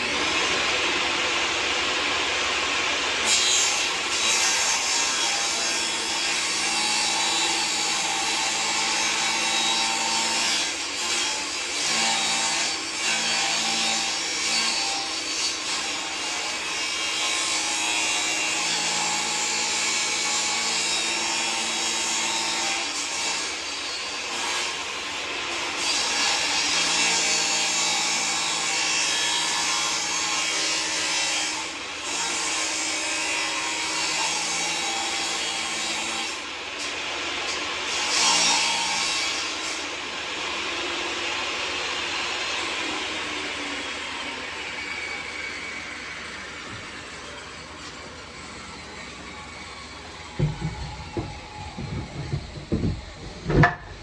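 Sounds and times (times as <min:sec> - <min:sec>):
power tool grinding wood: 0:00.0 - 0:54.0.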